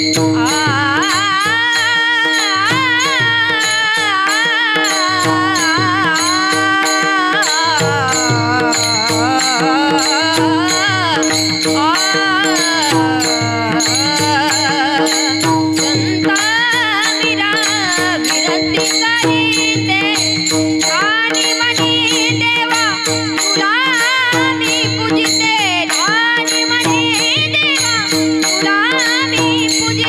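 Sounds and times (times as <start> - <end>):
small hand cymbals: 0.0 - 30.0
woman singing ornamented melody: 0.0 - 30.0.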